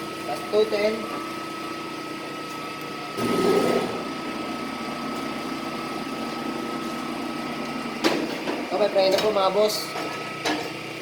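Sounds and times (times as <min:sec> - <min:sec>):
lathe humming with high whine: 0:00.0 - 0:11.0.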